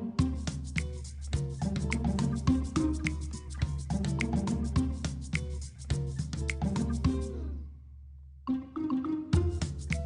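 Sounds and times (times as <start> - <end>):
background music with beat: 0.0 - 7.6, 8.5 - 10.0.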